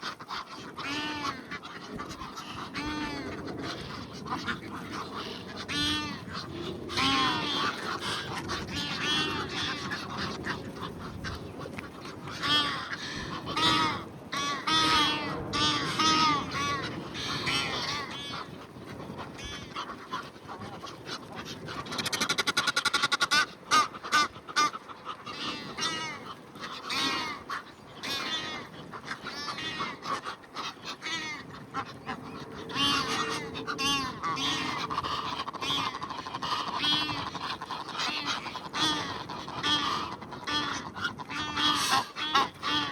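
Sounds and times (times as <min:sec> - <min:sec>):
ducks quacking: 0:00.0 - 0:42.9
geese honking: 0:00.0 - 0:42.9.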